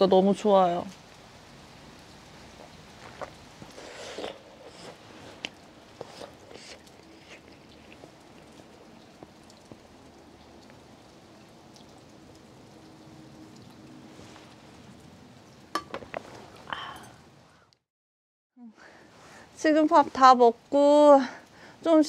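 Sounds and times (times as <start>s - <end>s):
gentle rain falling: 0.0s - 17.8s, 18.7s - 22.0s.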